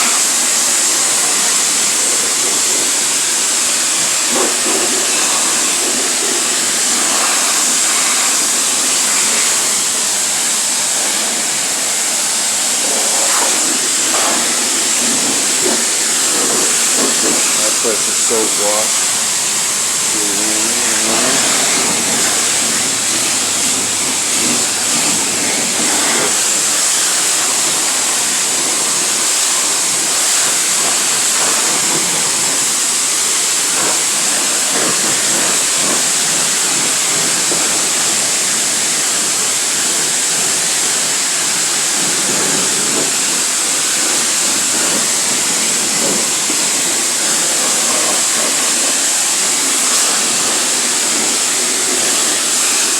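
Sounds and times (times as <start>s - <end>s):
pressure washer wand spraying water: 0.0s - 52.9s.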